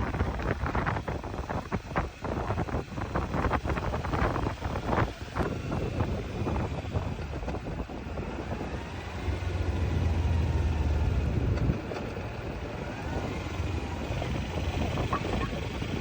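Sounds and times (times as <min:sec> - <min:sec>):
vehicle engine rumbling: 0:00.0 - 0:16.0
wind noise: 0:00.0 - 0:16.0.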